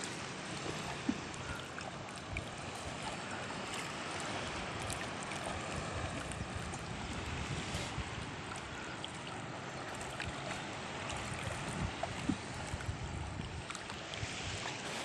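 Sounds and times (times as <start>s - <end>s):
water lapping against canoe: 0.0s - 15.0s
wooden paddle stroking water: 0.0s - 15.0s.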